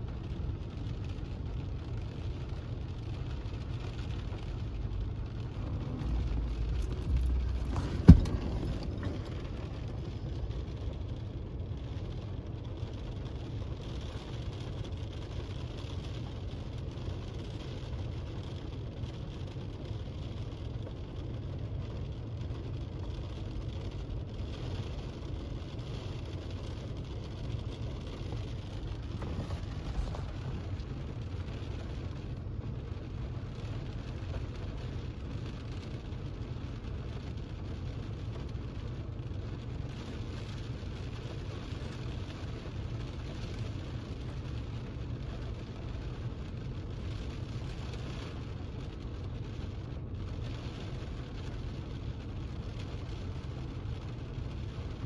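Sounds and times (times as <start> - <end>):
car rumbling: 0.0 - 55.0.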